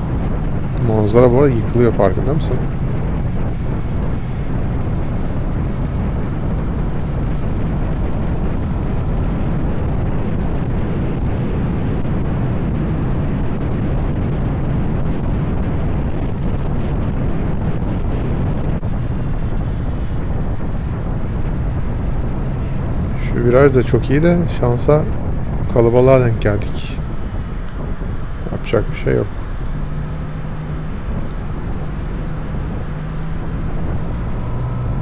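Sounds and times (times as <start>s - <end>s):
motorcycle engine: 0.0s - 35.0s
wind rushing over microphone: 0.0s - 35.0s.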